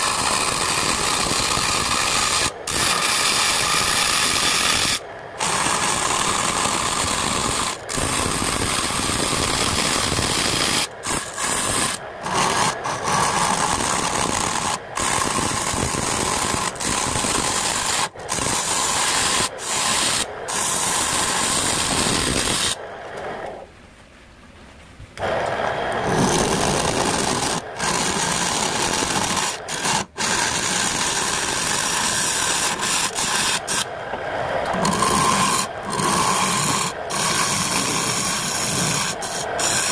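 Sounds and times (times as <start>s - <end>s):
lathe tool scraping wood: 0.0s - 23.5s, 26.0s - 33.9s, 34.6s - 39.9s.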